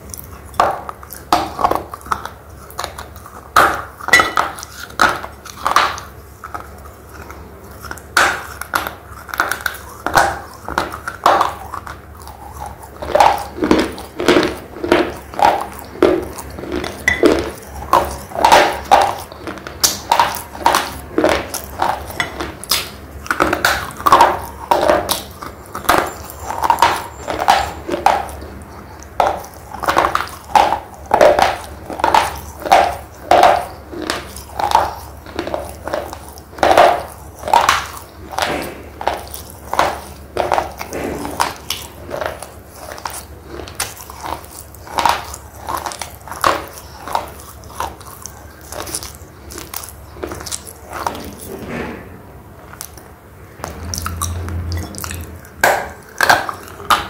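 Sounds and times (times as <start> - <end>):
dry crunchy chewing: 0.0 - 51.9, 52.5 - 57.0.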